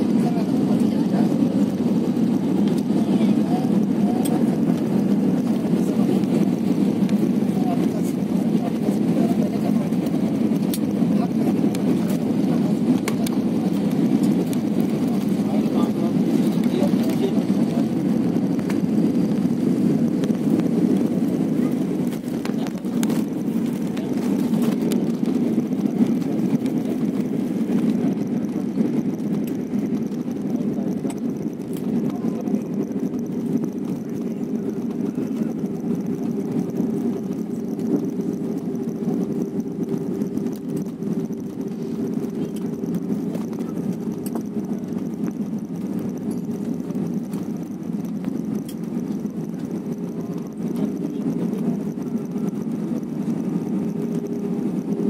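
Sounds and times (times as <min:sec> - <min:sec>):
jet engines and airflow rushing: 0:00.0 - 0:55.0.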